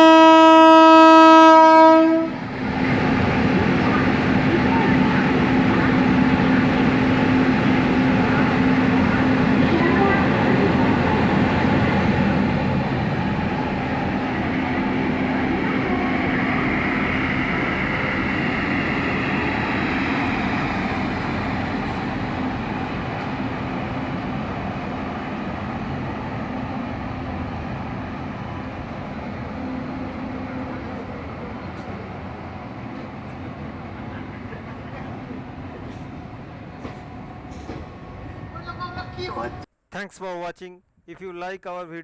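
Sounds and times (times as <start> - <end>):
steady train hum: 0.0 - 41.8
train coaches rolling on rails: 2.4 - 39.6.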